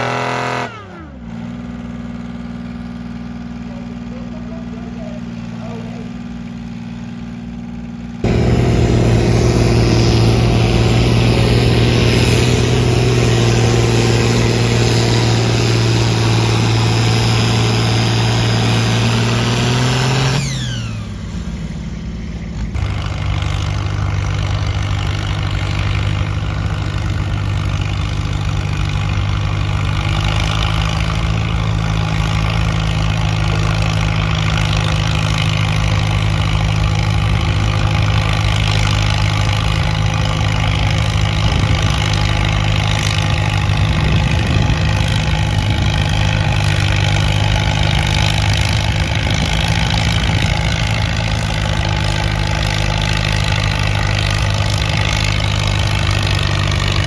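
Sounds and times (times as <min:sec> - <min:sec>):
tractor engine revving: 0:00.0 - 0:57.0.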